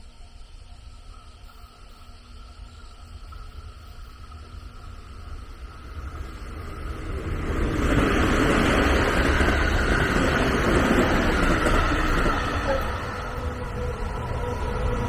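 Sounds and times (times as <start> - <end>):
train rumbling past: 0.9 - 15.0.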